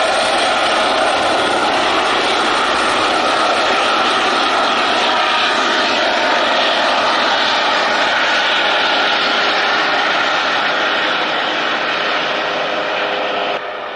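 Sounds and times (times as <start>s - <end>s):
helicopter rushing whine: 0.0s - 13.9s.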